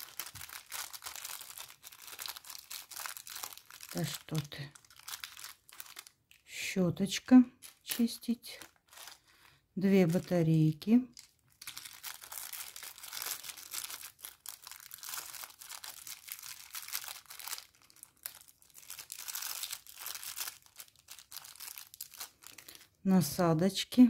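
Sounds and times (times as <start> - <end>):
plastic bag crinkling: 0.0 - 6.5, 7.2 - 23.0.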